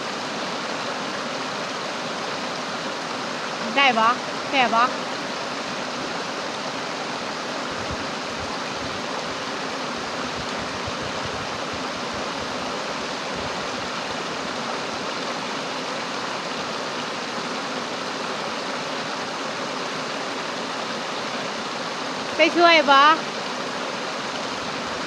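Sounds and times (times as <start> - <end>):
fast-flowing stream rushing: 0.0 - 25.0.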